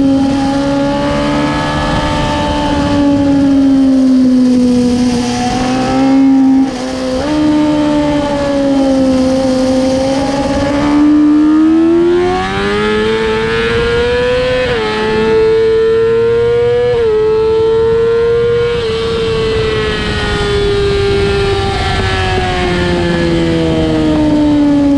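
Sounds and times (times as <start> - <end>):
motorcycle engine at high revs: 0.0 - 24.9.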